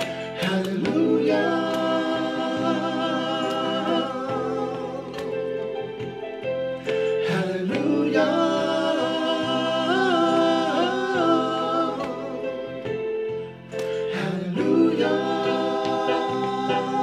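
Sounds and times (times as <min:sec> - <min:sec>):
man singing gospel: 0:00.0 - 0:06.0, 0:06.9 - 0:13.2, 0:13.8 - 0:17.0
sustained keyboard chords: 0:00.0 - 0:17.0.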